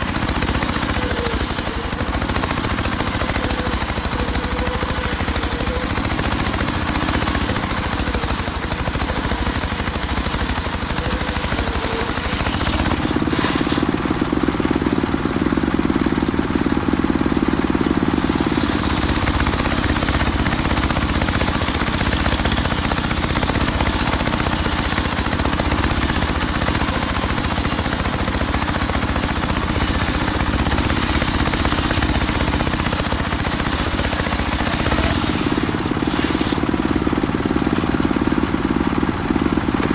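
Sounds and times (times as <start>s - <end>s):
circular saw cutting wood: 0.0s - 14.1s, 18.1s - 37.0s.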